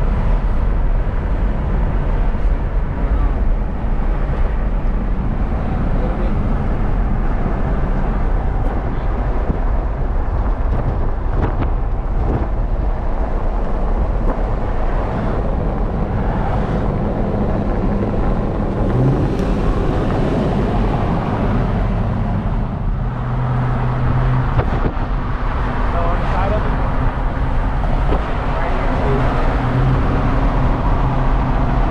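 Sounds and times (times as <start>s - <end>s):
low engine hum: 0.0s - 31.9s
road and wind noise: 0.0s - 31.9s.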